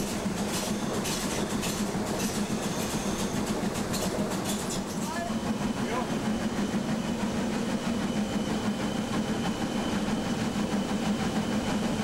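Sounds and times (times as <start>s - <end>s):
locomotive engine and wheels drone: 0.0s - 12.0s.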